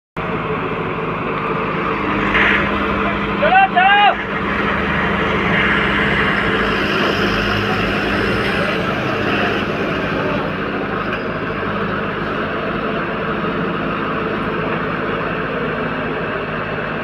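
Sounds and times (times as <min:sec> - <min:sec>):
truck engine idling: 0:00.2 - 0:17.0.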